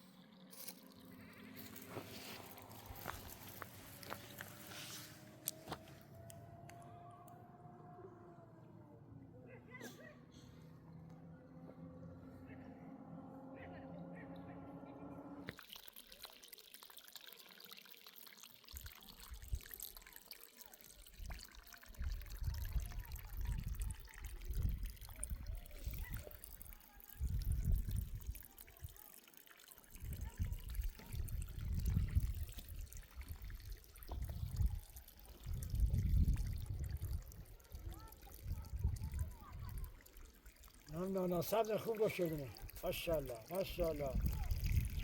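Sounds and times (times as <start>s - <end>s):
water trickling and flowing: 0.0s - 6.8s, 15.4s - 45.0s.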